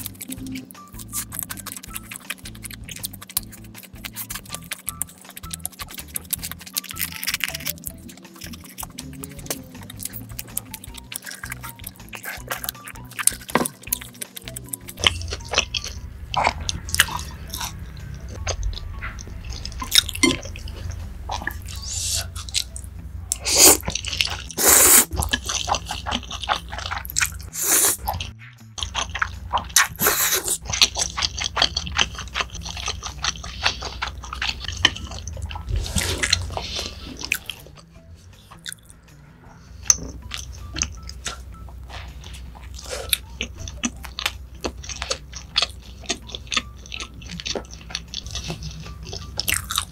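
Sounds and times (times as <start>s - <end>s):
slurping and chewing noodles: 0.0s - 38.9s, 39.6s - 49.9s.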